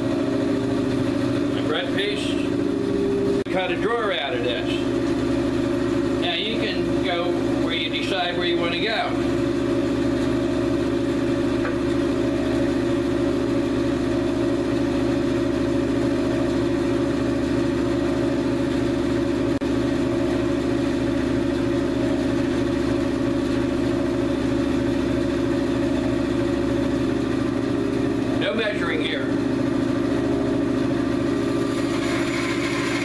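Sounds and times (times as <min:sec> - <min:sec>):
band saw humming: 0:00.0 - 0:33.0.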